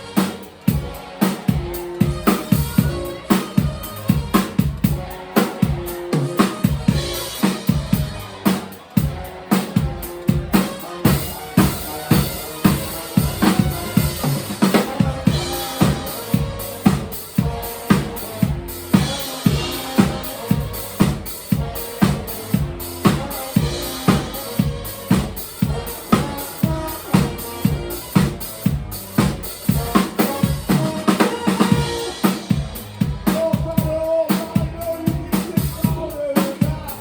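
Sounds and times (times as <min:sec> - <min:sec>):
drum kit beat: 0:00.0 - 0:37.0
live band music: 0:00.0 - 0:37.0.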